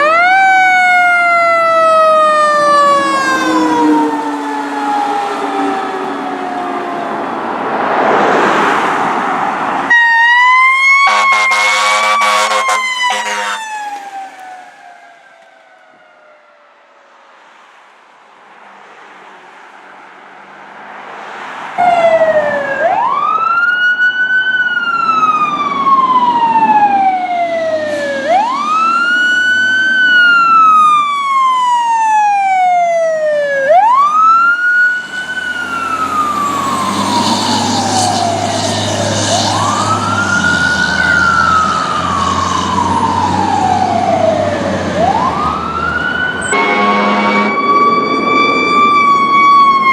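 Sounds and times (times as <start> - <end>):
fire truck siren wailing: 0.0 - 7.8, 8.4 - 17.2, 21.7 - 49.9.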